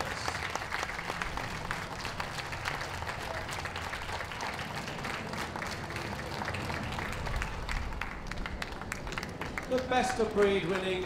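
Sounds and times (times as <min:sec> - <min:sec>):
audience applauding: 0:00.0 - 0:11.0
low background rumble: 0:00.0 - 0:11.0.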